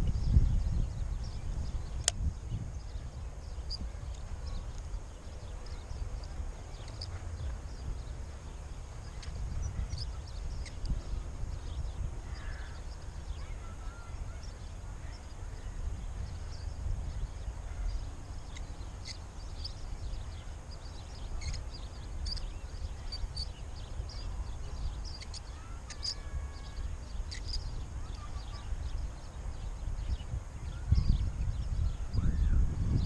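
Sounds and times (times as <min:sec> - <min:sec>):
songbirds chirping and calling: 0:00.0 - 0:33.0
wind rumble on microphone: 0:00.0 - 0:33.0.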